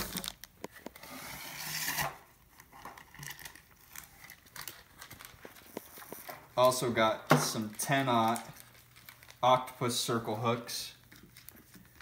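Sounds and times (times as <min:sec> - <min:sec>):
packaging rustling: 0:00.0 - 0:01.1, 0:02.3 - 0:10.3, 0:11.0 - 0:12.0.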